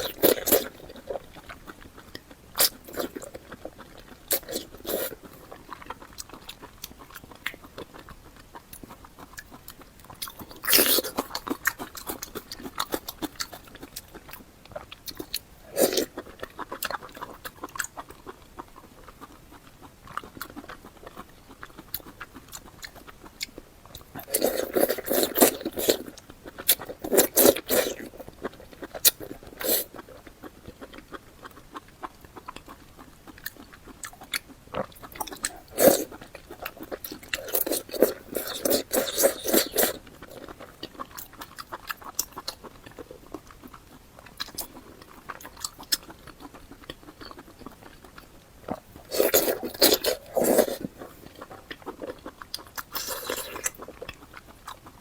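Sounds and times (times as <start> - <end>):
person chewing and biting food: 0.0 - 55.0.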